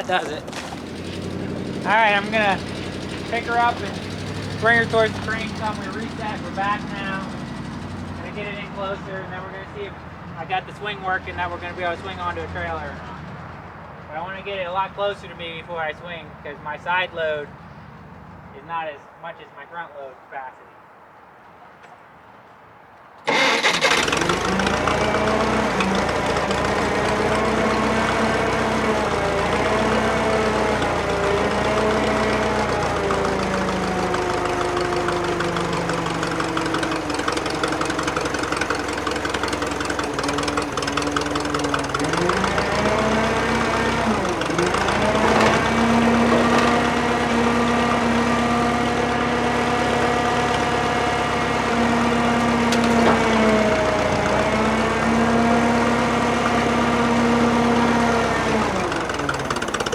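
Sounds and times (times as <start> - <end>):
crane engine running under load: 0.0 - 18.5, 23.3 - 59.9.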